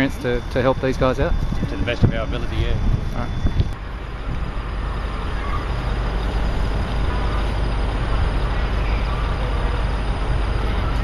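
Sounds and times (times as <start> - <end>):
low rumble of vehicle engines: 0.0 - 11.0.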